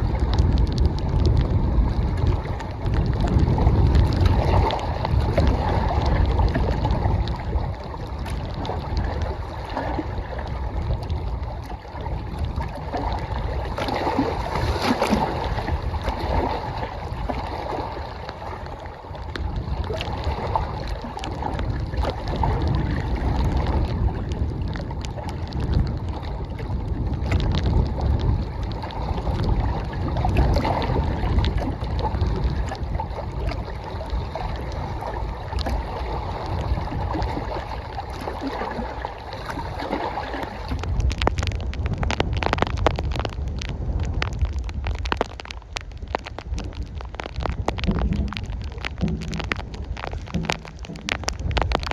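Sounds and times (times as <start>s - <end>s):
rain falling: 0.0s - 51.9s
water lapping at shore: 0.0s - 51.9s
wind buffeting microphone: 0.0s - 51.9s.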